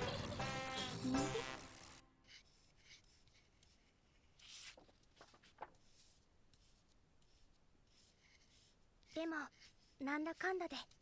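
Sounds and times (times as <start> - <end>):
pens scratching on paper: 0.1 - 11.0.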